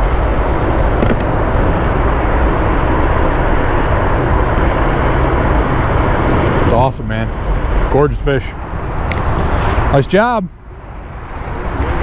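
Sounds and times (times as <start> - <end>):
wind buffeting microphone: 0.0 - 8.0, 8.6 - 12.0.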